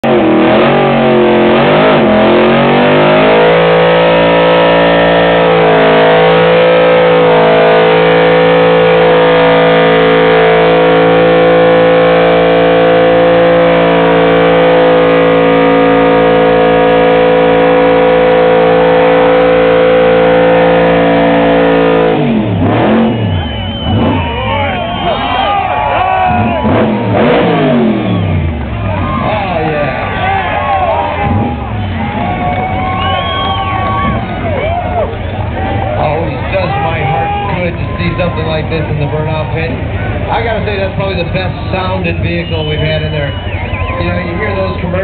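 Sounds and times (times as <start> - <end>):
pickup engine revving: 0.0 - 45.0.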